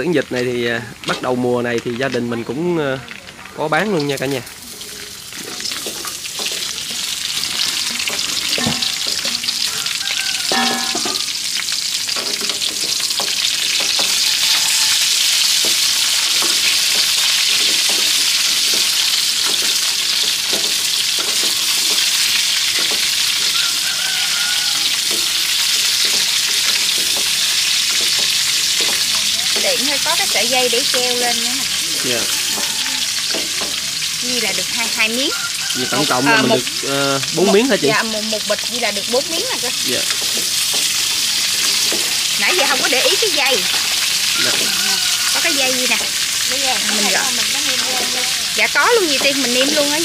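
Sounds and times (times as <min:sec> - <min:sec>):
food sizzling in a hot pan: 0:00.0 - 0:50.0.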